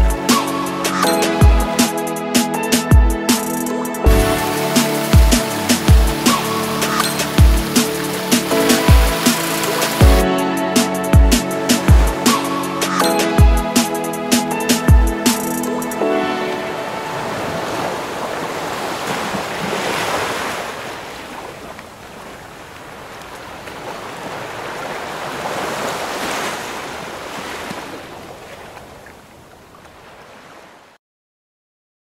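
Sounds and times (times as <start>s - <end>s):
waves breaking: 3.4s - 31.0s.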